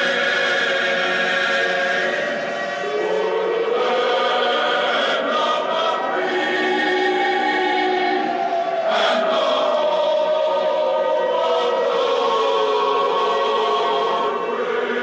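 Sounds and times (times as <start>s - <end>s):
eerie choir-like music: 0.0s - 15.0s.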